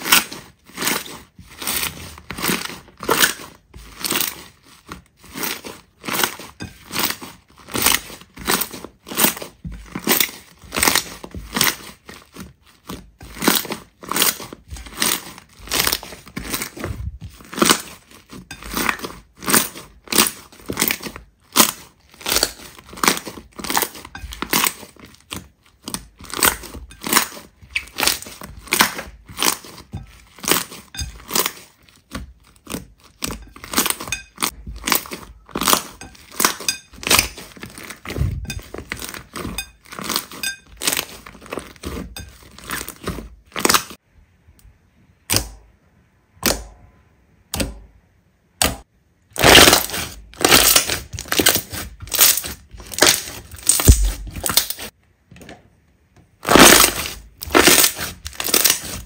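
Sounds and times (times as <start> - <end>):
slime crunchy crackles: 0.0 - 44.0, 48.6 - 55.0, 56.4 - 59.0.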